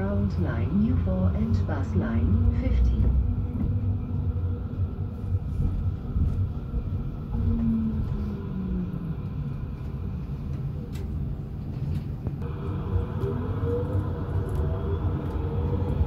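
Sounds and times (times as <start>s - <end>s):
tram rumbling: 0.0s - 16.0s.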